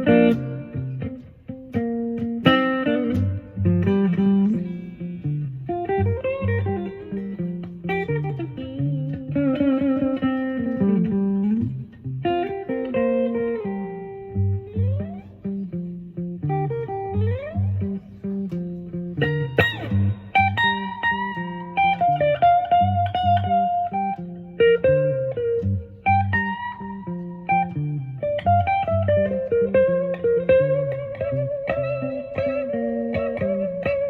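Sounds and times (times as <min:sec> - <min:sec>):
electric guitar playing blues lead: 0:00.0 - 0:34.0.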